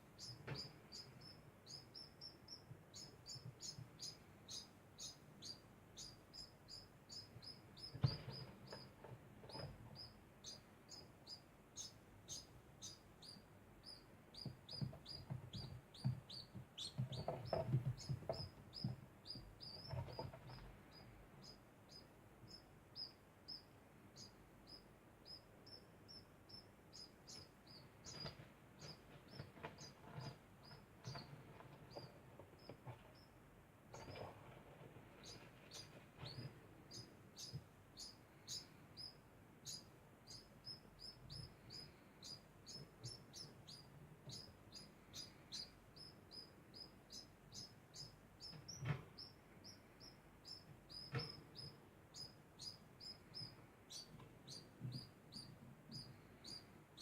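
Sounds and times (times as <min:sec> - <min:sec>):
degu chirping squeaks: 0:00.2 - 0:30.0, 0:35.2 - 0:57.0.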